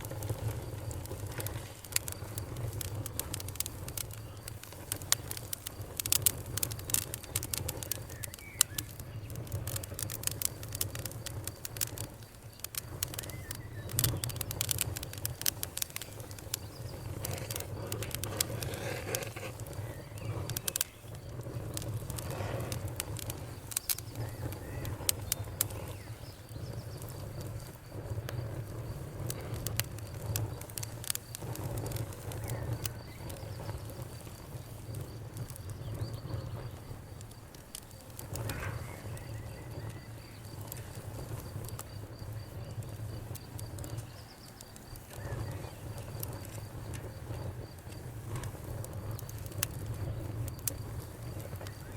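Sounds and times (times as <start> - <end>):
campfire pops and snaps: 0.0 - 51.9
low rumble of flames: 0.0 - 51.9.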